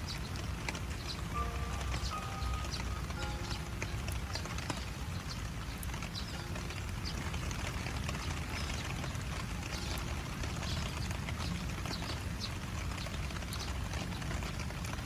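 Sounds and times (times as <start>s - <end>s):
sharp drips and taps: 0.0s - 15.0s
steady rain falling: 0.0s - 15.0s.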